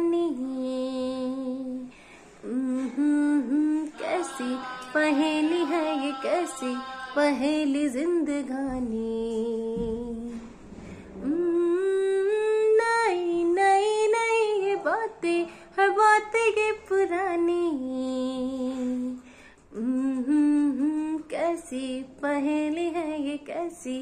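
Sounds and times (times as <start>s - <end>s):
woman singing unaccompanied: 0.0s - 10.5s, 11.2s - 24.0s.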